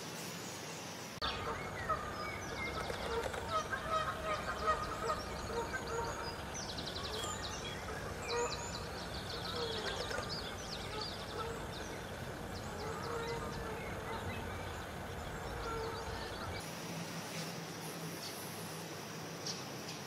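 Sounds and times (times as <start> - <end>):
small birds chirping: 0.5 - 16.7.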